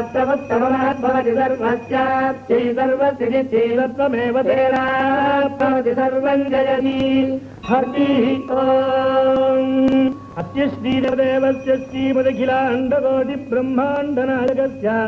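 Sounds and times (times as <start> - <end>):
man chanting in long held notes: 0.0 - 15.0.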